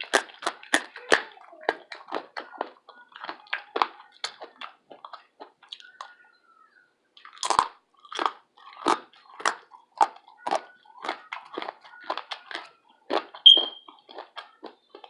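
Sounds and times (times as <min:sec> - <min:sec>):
chewing crispy bacon: 0:00.0 - 0:06.4, 0:07.2 - 0:15.0.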